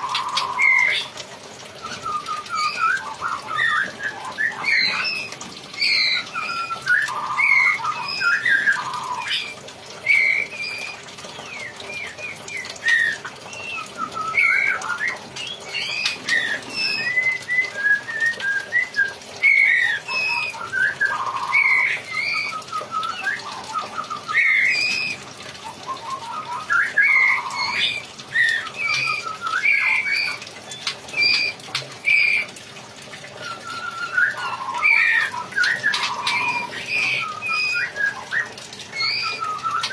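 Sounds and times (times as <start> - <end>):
songbird singing: 0.0 - 32.6, 33.4 - 39.9.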